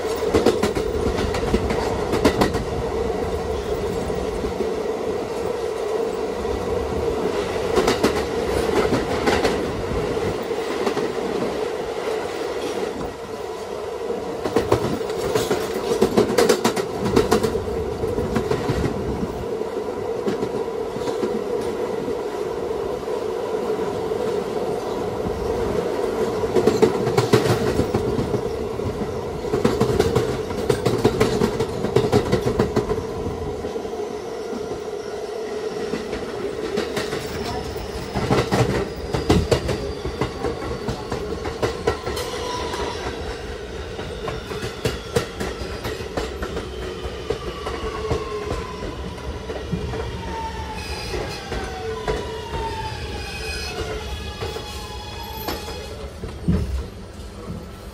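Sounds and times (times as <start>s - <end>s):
subway car rumbling on track: 0.0s - 57.9s.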